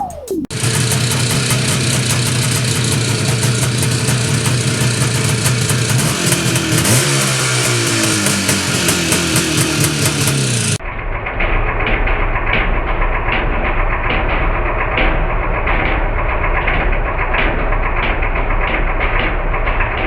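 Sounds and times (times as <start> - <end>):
motorcycle engine running: 0.0 - 20.0
ticking clatter: 0.5 - 20.0.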